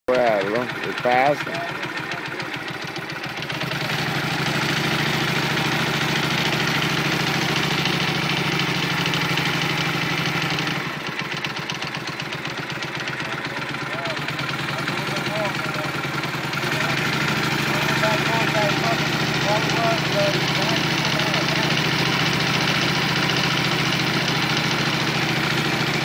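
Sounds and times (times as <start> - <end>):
boat motor running: 0.1 - 26.0.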